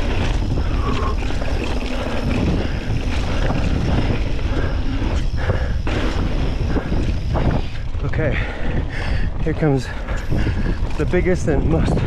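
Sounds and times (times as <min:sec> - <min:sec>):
bike rattling and clicking: 0:00.0 - 0:12.0
tyres crunching on dirt: 0:00.0 - 0:12.0
wind on microphone: 0:00.0 - 0:12.0.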